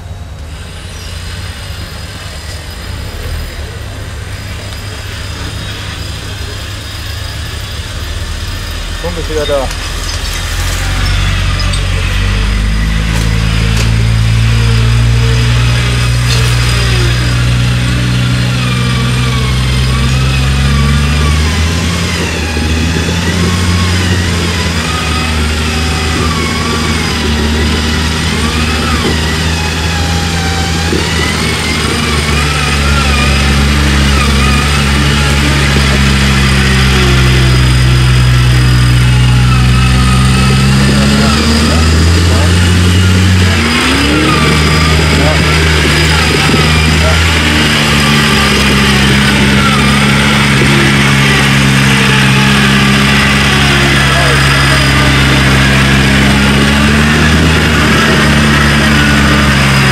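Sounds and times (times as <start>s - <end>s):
off-road vehicle engine under load: 0.0s - 59.9s.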